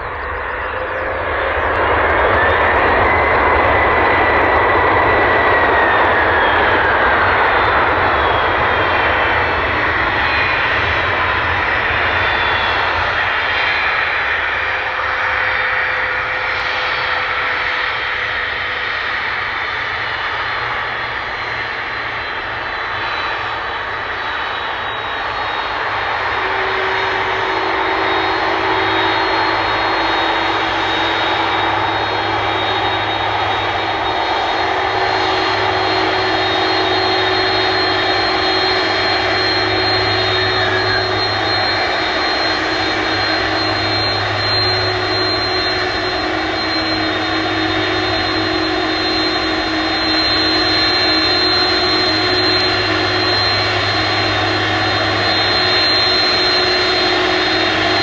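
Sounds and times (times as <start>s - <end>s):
jet engine rumble: 0.0s - 58.0s
jet engines spooling down: 0.0s - 58.0s.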